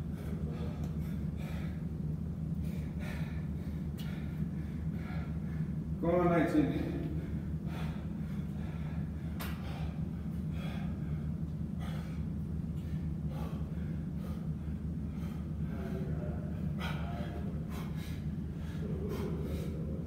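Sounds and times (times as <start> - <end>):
man breathing hard: 0.0 - 6.0, 6.6 - 20.0
steady low hum: 0.0 - 20.0.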